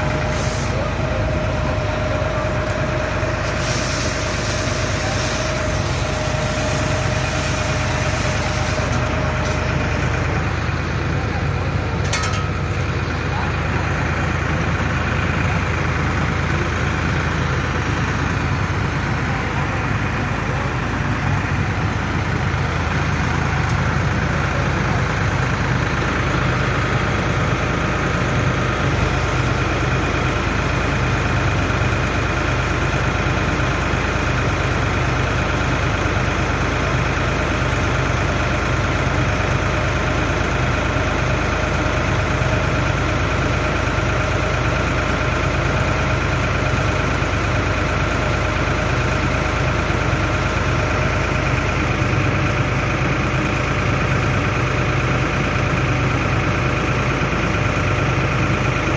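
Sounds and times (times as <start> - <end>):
baler engine drone with whine: 0.0 - 58.9.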